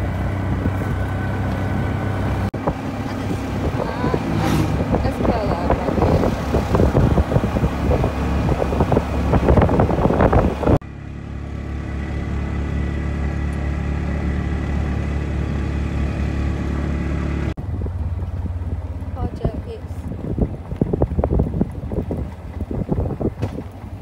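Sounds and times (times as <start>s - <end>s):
gusty wind: 0.0s - 10.8s, 14.9s - 24.0s
road noise: 0.0s - 24.0s
vehicle engine drone: 0.0s - 24.0s.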